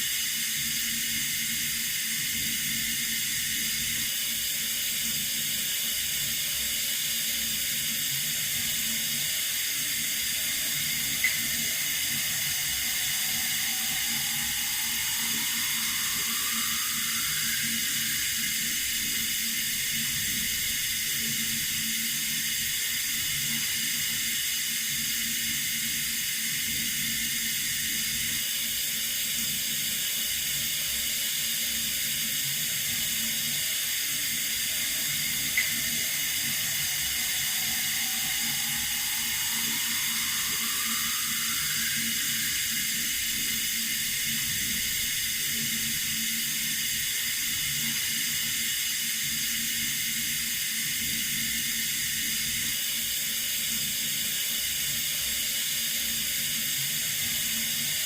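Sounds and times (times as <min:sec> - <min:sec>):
faint rising whistle: 0:00.0 - 0:58.0
water running from a tap: 0:00.1 - 0:28.5, 0:31.2 - 0:52.8.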